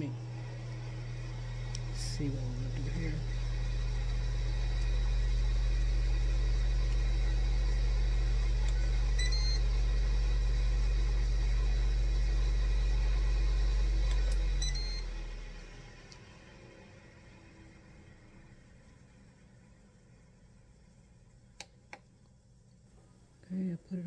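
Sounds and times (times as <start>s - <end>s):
appliance fan humming: 0.0s - 24.0s.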